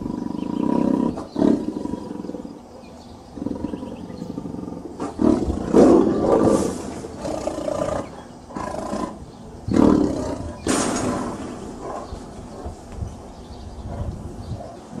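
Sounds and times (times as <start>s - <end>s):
tiger roaring and growling: 0.0s - 15.0s.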